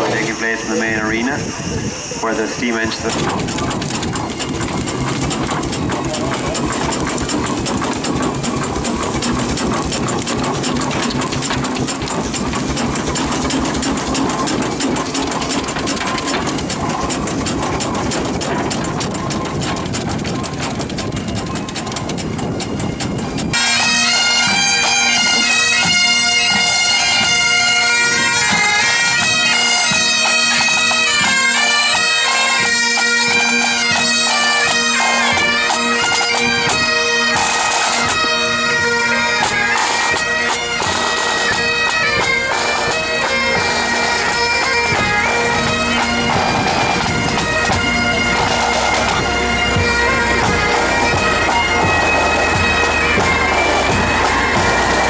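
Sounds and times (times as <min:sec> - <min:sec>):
bagpipe drones: 0:00.0 - 0:55.0
bagpipes playing a tune: 0:00.0 - 0:55.0
drums beating: 0:00.0 - 0:55.0.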